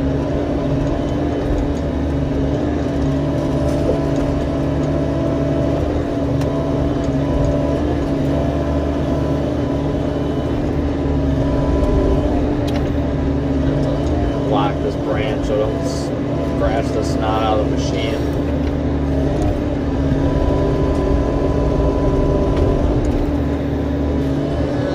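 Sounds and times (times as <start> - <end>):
diesel engine rumble: 0.0 - 24.9.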